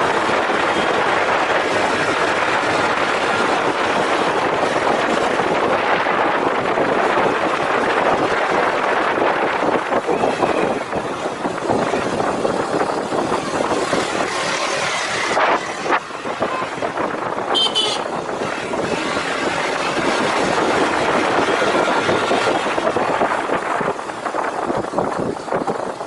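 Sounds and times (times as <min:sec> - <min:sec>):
motorcycle engine: 0:00.0 - 0:26.0
wind rush: 0:00.0 - 0:26.0.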